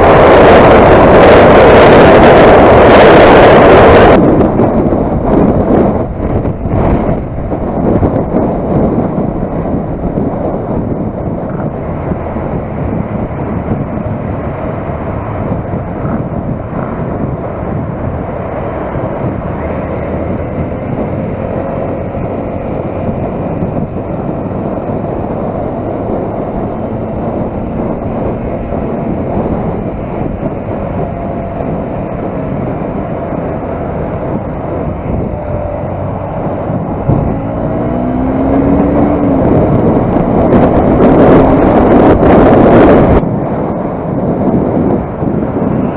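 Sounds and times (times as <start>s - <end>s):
motorcycle engine: 0.0s - 45.9s
wind on microphone: 0.0s - 45.9s.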